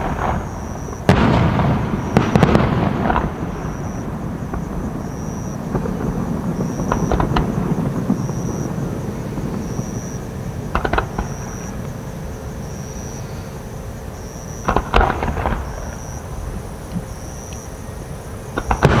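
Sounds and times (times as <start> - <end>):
fireworks booming: 0.0 - 17.5, 18.3 - 19.0
fireworks crackling bursts: 0.0 - 19.0.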